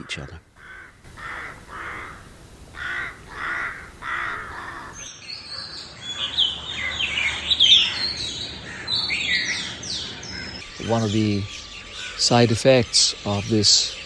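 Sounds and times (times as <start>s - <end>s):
rooks cawing: 0.0s - 12.6s
songbirds chirping: 0.0s - 14.0s.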